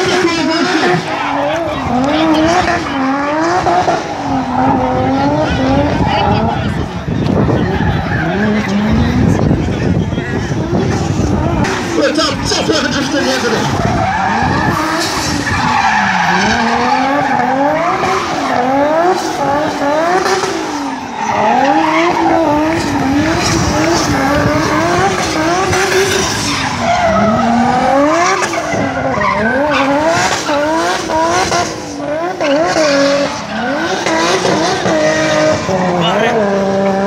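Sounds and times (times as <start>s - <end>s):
car engine revving: 0.0s - 37.0s
tyres skidding and squealing: 0.0s - 37.0s.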